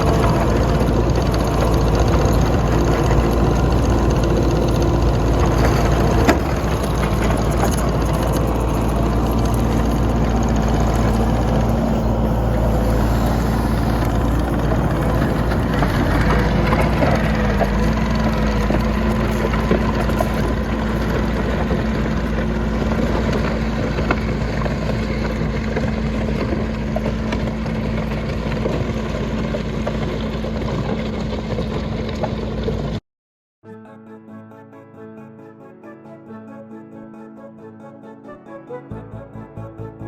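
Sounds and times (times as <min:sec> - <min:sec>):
diesel engine running under work: 0:00.0 - 0:33.0.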